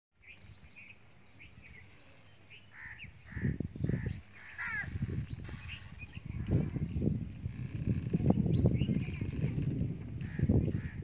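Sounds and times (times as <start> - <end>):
wind buffeting microphone: 0.2 - 11.0
birds giving harsh crow-like calls: 1.4 - 9.6, 10.2 - 11.0.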